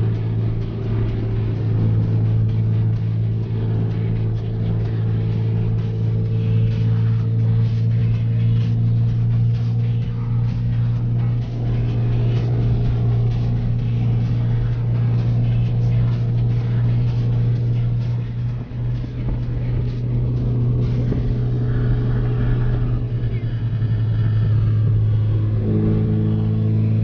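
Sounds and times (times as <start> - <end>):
car interior engine and road drone: 0.0 - 27.0.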